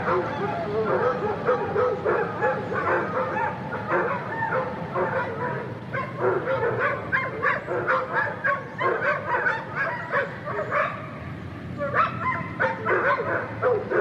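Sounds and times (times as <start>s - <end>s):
many dogs barking: 0.0s - 11.2s, 11.8s - 14.0s.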